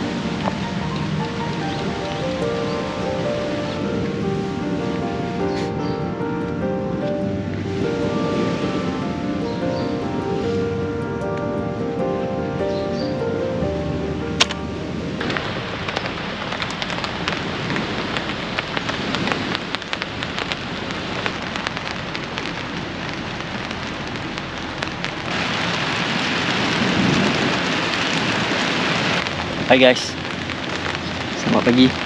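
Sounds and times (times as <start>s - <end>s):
rain on a tent: 0.0s - 13.0s, 13.8s - 32.0s.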